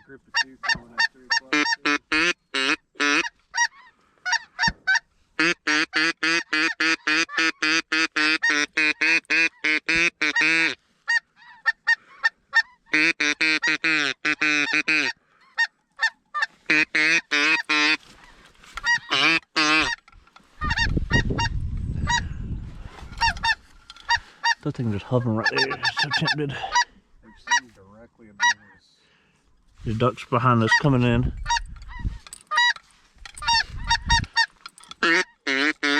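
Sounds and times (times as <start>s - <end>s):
geese honking: 0.2s - 22.3s, 23.0s - 29.2s, 30.4s - 35.9s.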